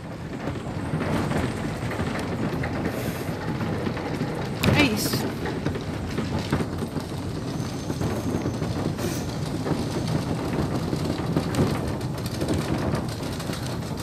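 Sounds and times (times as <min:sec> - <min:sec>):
funicular car rumbling: 0:00.0 - 0:14.0
rattle of wheels and fittings: 0:00.0 - 0:14.0.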